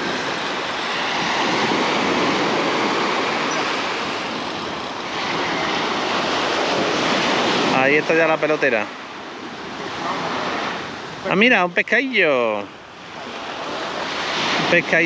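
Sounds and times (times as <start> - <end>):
surf washing up a beach: 0.0 - 15.0.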